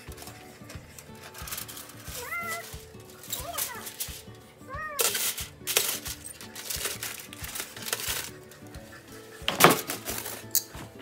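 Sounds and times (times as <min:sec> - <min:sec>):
aluminium foil crinkling: 0:00.0 - 0:10.8
background music: 0:00.0 - 0:11.0.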